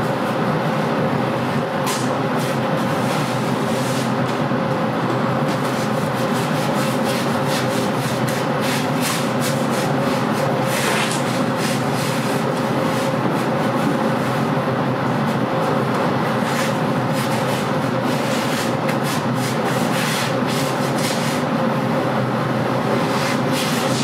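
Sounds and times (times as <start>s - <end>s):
constant hum: 0.0s - 24.0s.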